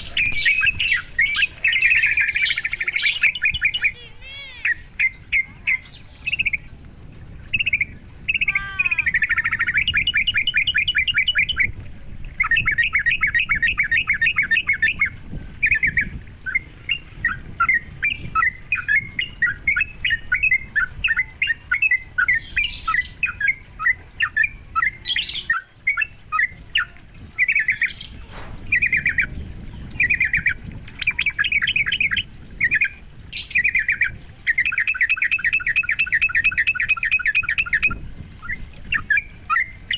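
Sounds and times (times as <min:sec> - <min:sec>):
bird song bubbling chattering notes: 0:00.0 - 0:39.9.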